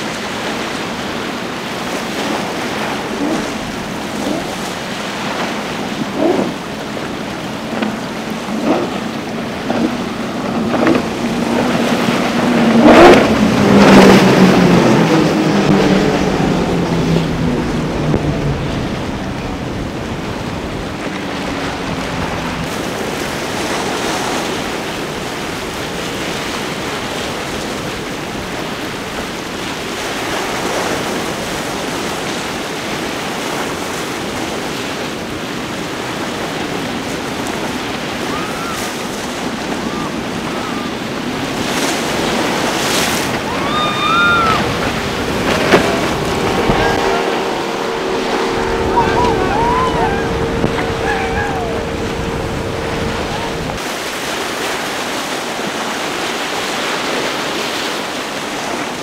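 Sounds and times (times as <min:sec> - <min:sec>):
waves washing: 0:00.0 - 0:59.0
wind on microphone: 0:00.0 - 0:59.0.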